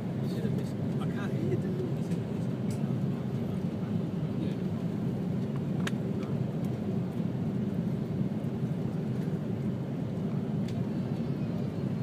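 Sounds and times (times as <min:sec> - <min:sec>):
aircraft engines rumbling: 0:00.0 - 0:12.0.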